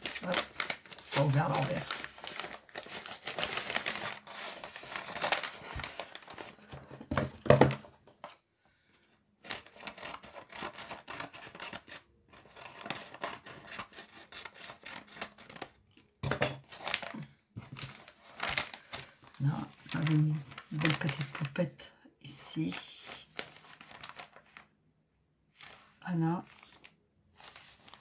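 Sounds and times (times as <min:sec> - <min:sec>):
paper crinkling and rustling: 0:00.0 - 0:16.0, 0:16.6 - 0:21.8, 0:22.7 - 0:24.8, 0:25.5 - 0:28.0.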